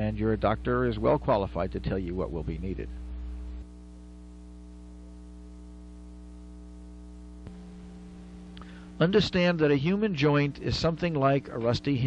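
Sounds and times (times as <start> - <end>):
electrical hum: 0.0 - 12.0
faint hiss: 0.0 - 12.0.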